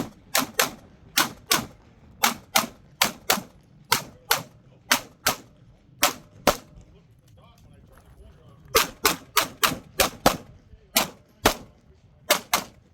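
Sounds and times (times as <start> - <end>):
pistol shots in pairs: 0.0 - 6.8, 8.7 - 11.7, 12.3 - 12.9.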